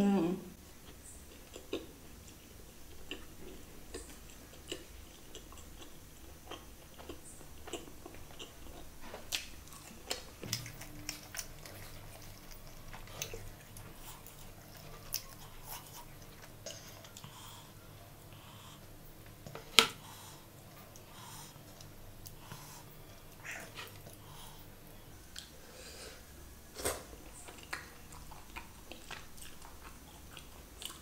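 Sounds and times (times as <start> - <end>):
close-miked chewing: 0.8 - 19.6, 20.3 - 25.8, 26.8 - 31.0.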